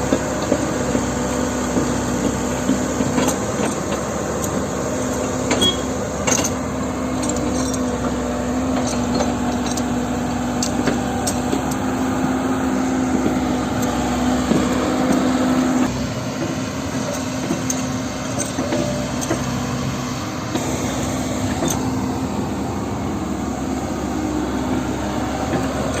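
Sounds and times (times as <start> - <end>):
heavy machinery diesel engines: 0.0 - 26.0.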